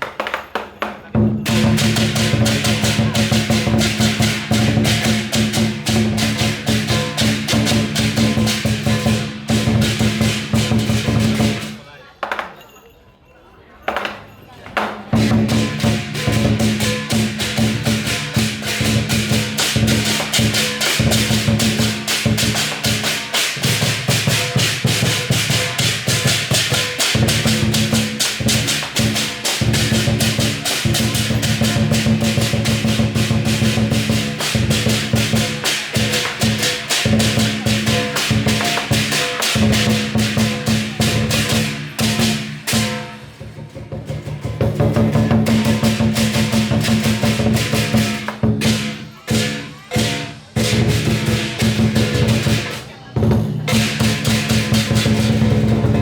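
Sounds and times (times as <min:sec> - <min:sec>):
lion dance drum: 0:00.0 - 0:12.6, 0:13.9 - 0:56.0
clashing cymbals: 0:00.3 - 0:11.8, 0:15.1 - 0:56.0.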